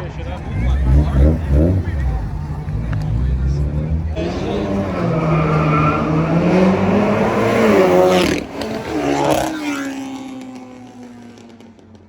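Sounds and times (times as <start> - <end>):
car engine revving hard: 0.0 - 10.8.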